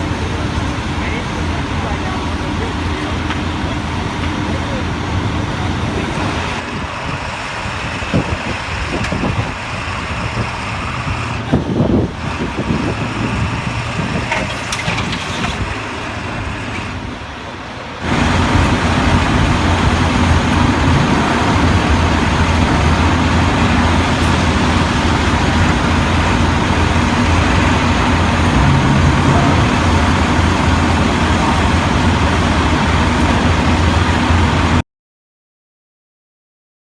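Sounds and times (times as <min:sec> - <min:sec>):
tow truck engine running: 0:00.0 - 0:34.8.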